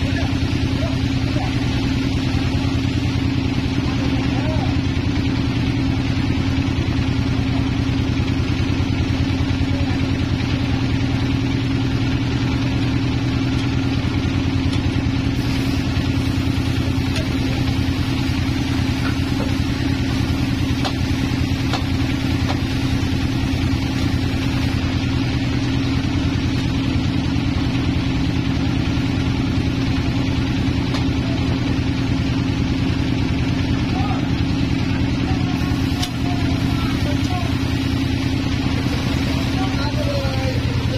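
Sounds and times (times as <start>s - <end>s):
sawmill power unit humming: 0.0s - 40.9s.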